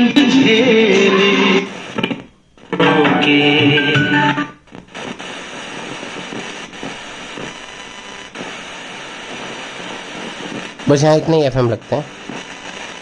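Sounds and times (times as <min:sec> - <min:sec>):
music from radio speaker: 0:00.0 - 0:10.9, 0:12.1 - 0:13.0
radio static hiss: 0:00.0 - 0:13.0.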